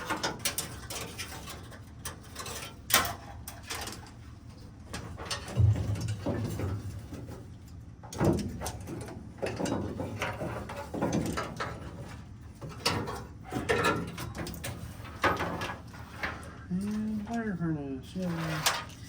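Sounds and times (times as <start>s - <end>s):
clunks and rattles of car parts: 0.0s - 16.6s.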